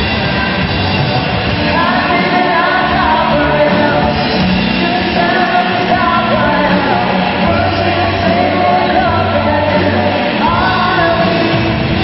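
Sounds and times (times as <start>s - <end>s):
live rock band: 0.0s - 12.0s
man singing: 1.6s - 12.0s.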